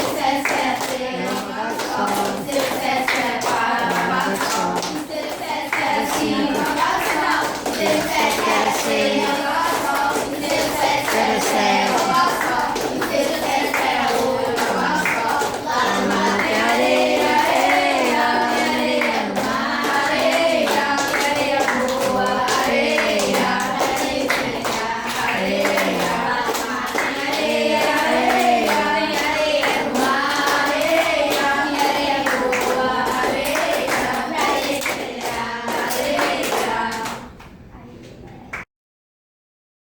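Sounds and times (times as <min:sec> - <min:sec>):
group singing: 0:00.0 - 0:37.4
hand clapping: 0:00.0 - 0:37.6.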